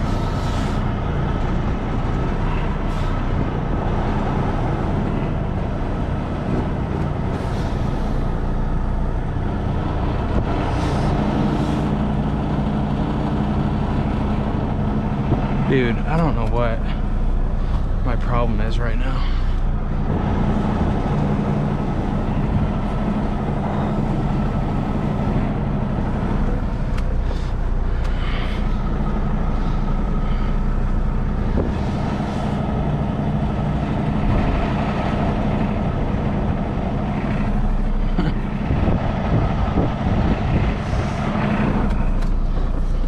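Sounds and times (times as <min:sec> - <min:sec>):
diesel truck engine running: 0:00.0 - 0:43.0.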